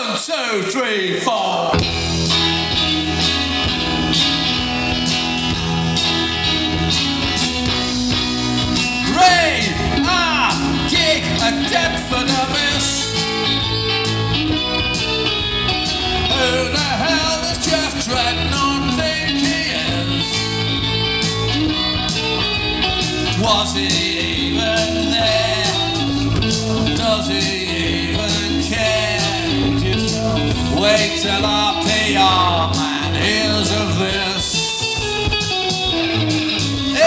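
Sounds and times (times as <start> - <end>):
bass guitar: 1.7 - 37.0
electric guitar: 1.7 - 37.0.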